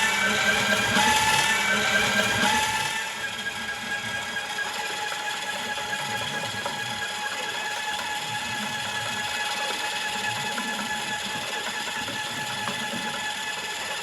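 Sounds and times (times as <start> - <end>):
drain snake machine whine: 0.0 - 14.0.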